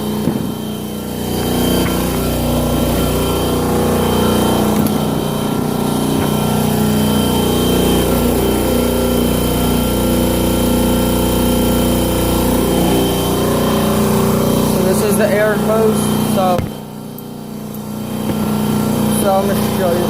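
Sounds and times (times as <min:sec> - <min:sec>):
air compressor running: 0:00.0 - 0:20.0.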